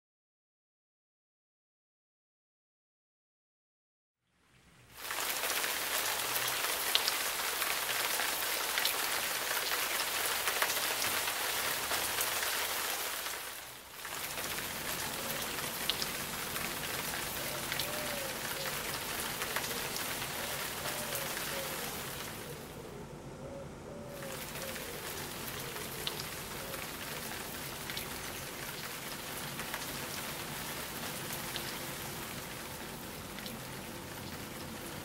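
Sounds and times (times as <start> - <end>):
steady rain falling: 4.4 - 23.0, 24.1 - 35.0.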